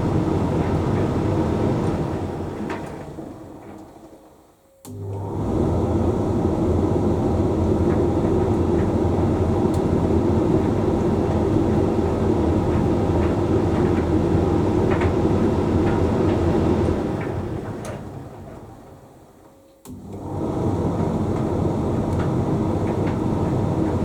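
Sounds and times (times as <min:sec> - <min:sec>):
tumble dryer drum motor and fan humming: 0:00.0 - 0:24.0.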